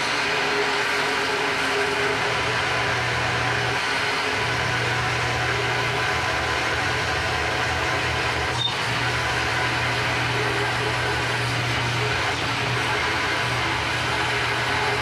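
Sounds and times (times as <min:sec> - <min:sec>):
bandsaw cutting steel: 0:00.0 - 0:15.0.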